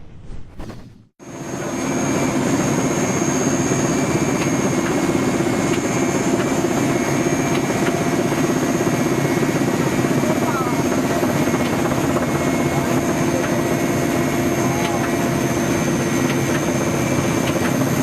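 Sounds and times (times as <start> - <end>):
helicopter engine and rotor noise: 1.2 - 18.0.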